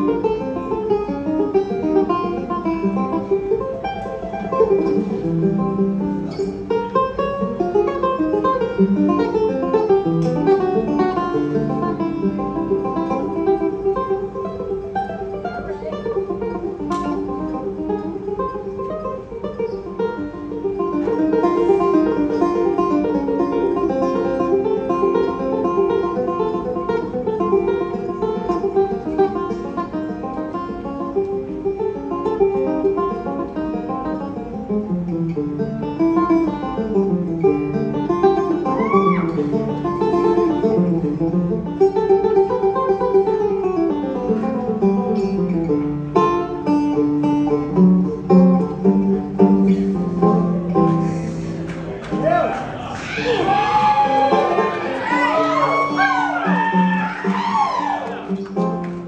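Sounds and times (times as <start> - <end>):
band playing: 0.0 - 35.0, 35.6 - 59.0
picked banjo: 0.0 - 52.6, 53.4 - 59.0.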